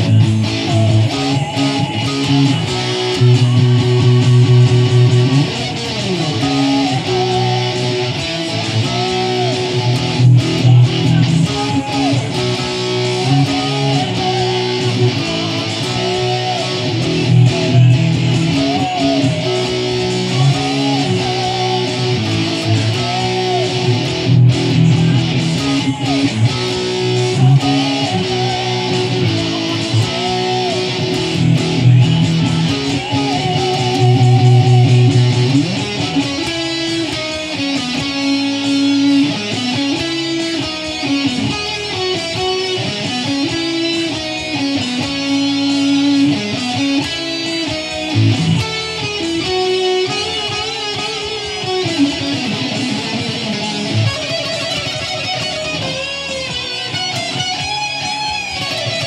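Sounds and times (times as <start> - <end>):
electric guitar metal riff: 0.0 - 59.0.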